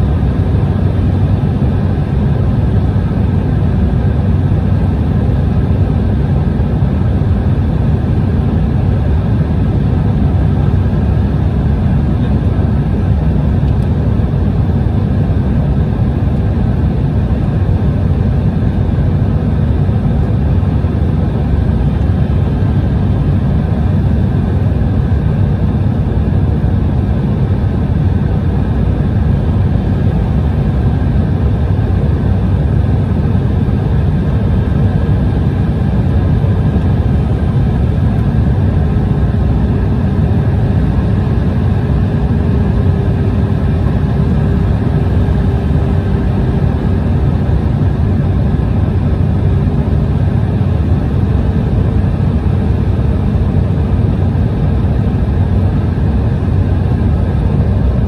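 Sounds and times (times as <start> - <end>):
jet engine and airflow roar: 0.0 - 58.0.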